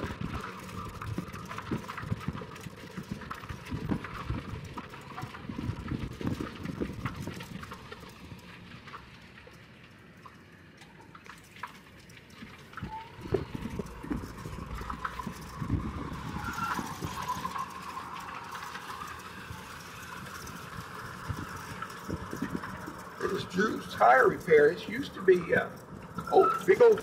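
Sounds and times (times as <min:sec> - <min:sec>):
golf cart rattling over pavement: 0:00.0 - 0:27.0.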